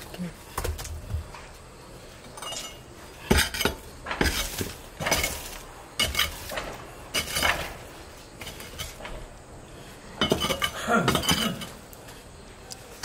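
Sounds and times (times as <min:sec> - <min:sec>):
earth scraping: 0:00.0 - 0:12.5.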